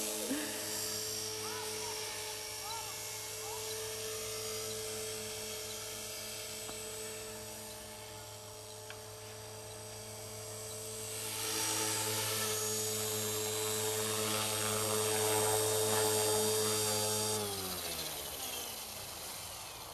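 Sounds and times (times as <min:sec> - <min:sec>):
rc helicopter motor whining: 0:00.0 - 0:19.9.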